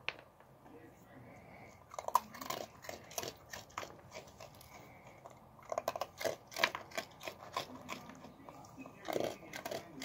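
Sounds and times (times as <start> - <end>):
raccoon crunching dog biscuits: 1.3 - 10.0.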